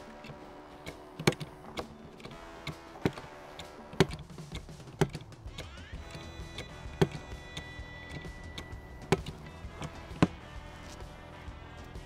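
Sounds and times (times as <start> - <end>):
lever pump clacking: 0.0 - 11.3
soft background music: 0.0 - 12.0.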